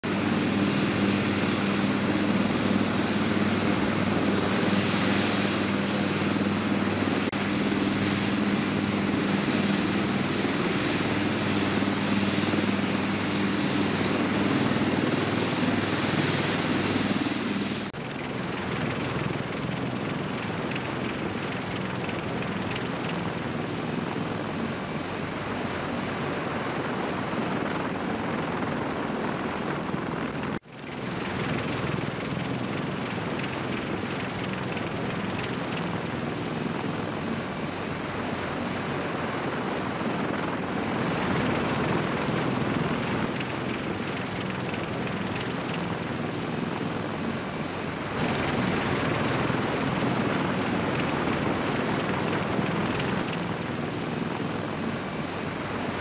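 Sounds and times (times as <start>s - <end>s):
helicopter turbine whine: 0.0s - 56.0s
low rotor drone: 0.0s - 56.0s.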